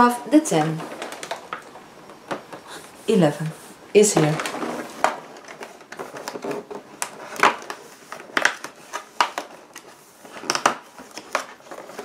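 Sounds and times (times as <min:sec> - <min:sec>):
cardboard and paper rustling: 0:00.3 - 0:12.0.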